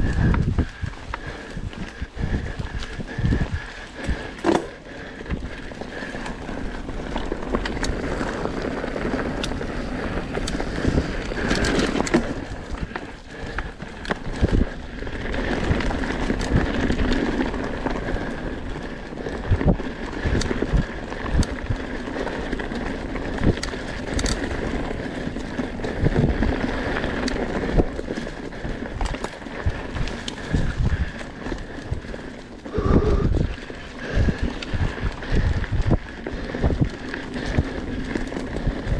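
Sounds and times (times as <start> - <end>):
bike rattling and knocking: 0.0 - 38.9
wind on microphone: 0.0 - 38.9
tyres rolling over dirt and leaves: 4.3 - 38.9.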